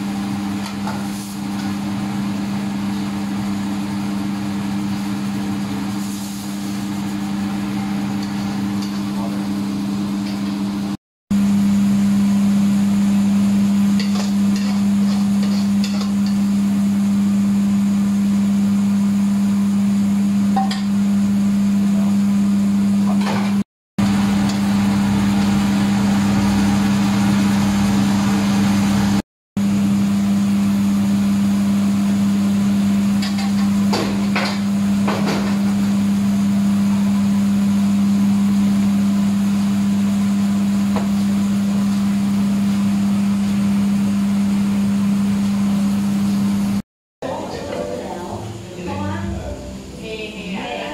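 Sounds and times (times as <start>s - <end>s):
low machine hum: 0.0s - 50.9s.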